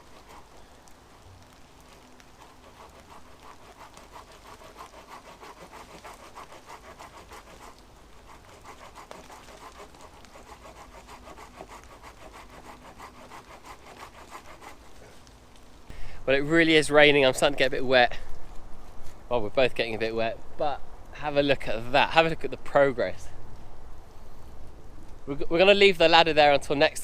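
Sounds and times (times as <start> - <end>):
steady rain patter: 0.0 - 27.0.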